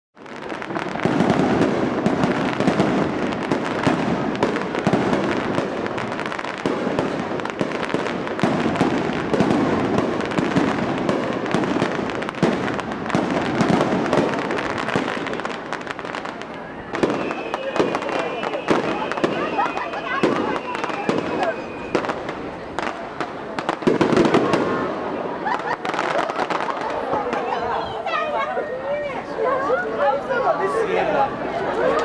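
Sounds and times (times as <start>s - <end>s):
fireworks bangs and crackles: 0.2s - 28.3s.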